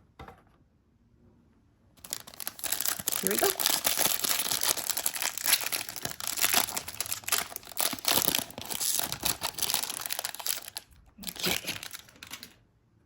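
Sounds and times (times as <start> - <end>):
wrapper tearing and crinkling: 2.0 - 12.6.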